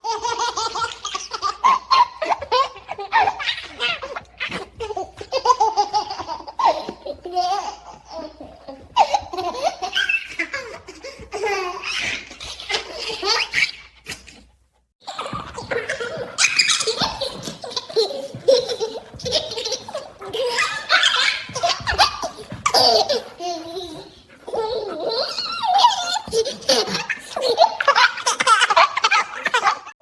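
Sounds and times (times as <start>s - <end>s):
baby laughing and giggling: 0.0s - 14.3s, 15.0s - 30.0s.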